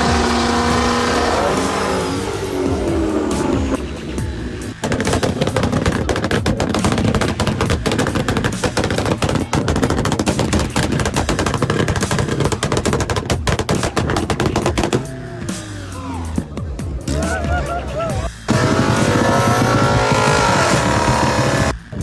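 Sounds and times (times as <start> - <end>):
car exhaust popping bangs: 0.0 - 22.0.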